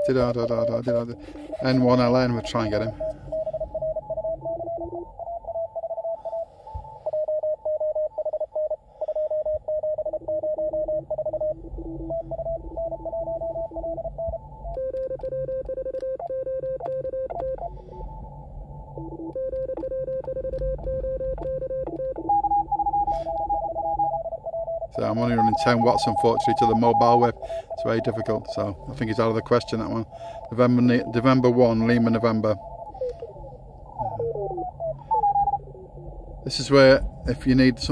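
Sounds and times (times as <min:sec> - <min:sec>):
morse code tones overlapping: 0:00.0 - 0:37.9
strong keyed tone: 0:00.0 - 0:37.9.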